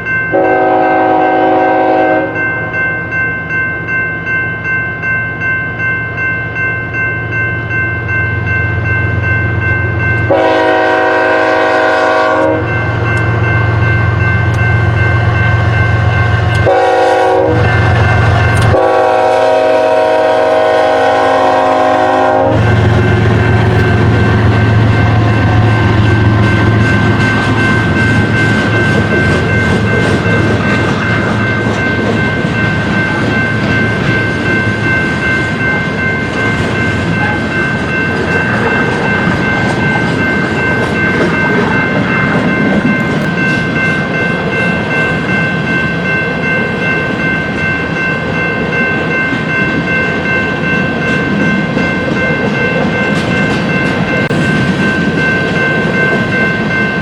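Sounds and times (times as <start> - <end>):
train wheels rumbling on rail: 7.6 - 57.0.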